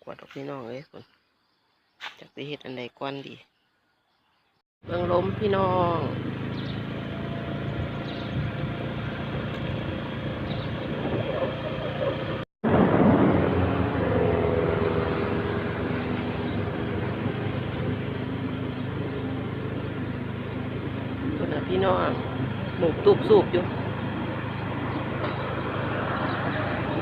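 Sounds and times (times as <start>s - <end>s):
outdoor noise: 0.0s - 27.0s
engine hum: 4.8s - 27.0s.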